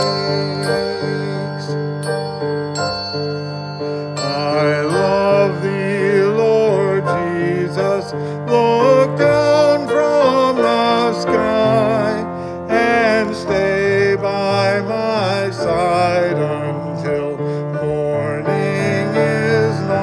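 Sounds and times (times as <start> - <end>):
grand piano: 0.0 - 20.0.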